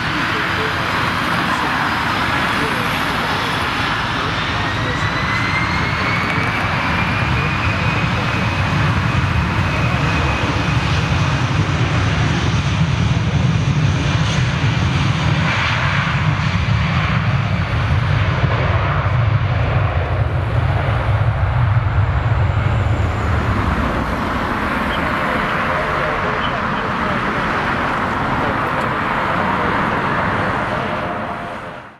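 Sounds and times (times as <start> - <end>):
jet engines deep rumble: 0.0 - 31.9.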